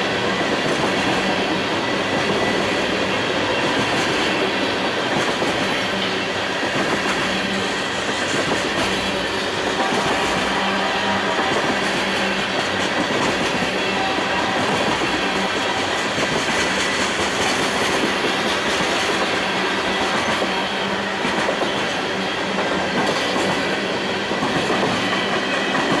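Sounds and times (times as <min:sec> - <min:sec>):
clickety-clack over rail joints: 0:00.0 - 0:26.0
steel wheels rolling on rail: 0:00.0 - 0:26.0.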